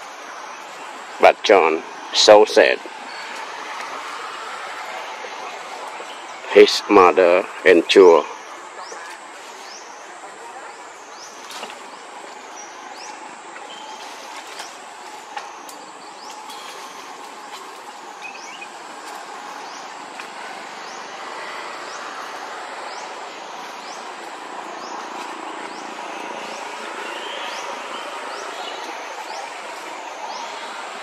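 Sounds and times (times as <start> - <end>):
steady rushing background noise: 0.0 - 31.0.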